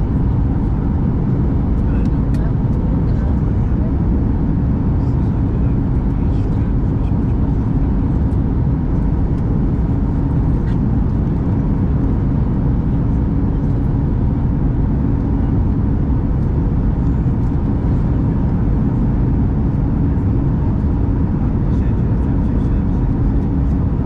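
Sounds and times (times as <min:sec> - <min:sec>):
airliner cabin airflow and engines: 0:00.0 - 0:24.0.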